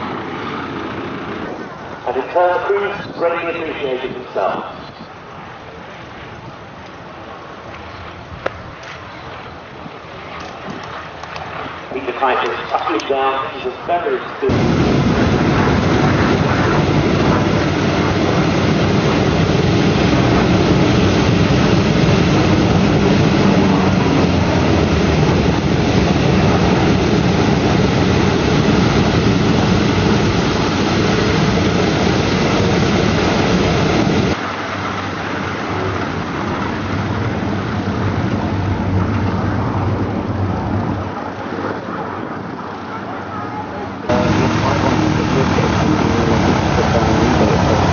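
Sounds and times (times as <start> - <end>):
aircraft engine rumble: 0.0 - 47.9.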